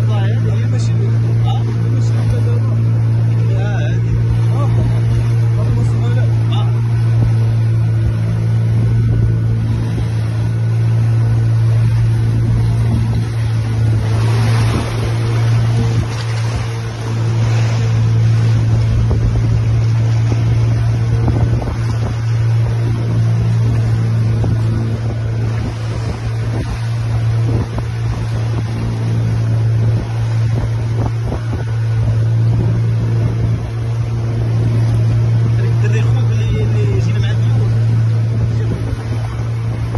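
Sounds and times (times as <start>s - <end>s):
boat motor humming: 0.0s - 39.9s
water rushing along hull: 0.0s - 39.9s.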